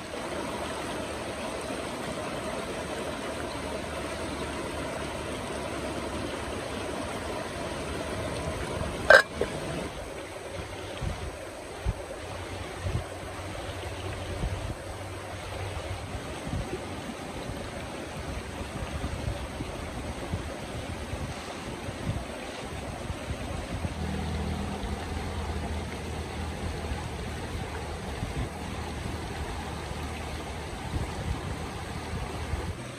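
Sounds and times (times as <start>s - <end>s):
stream rushing over rocks: 0.0s - 32.9s.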